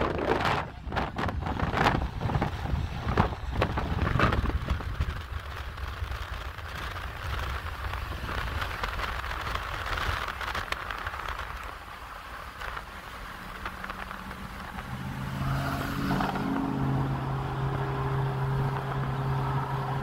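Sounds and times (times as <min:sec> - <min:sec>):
low rumble: 0:00.0 - 0:20.0
road and wind noise: 0:00.0 - 0:20.0.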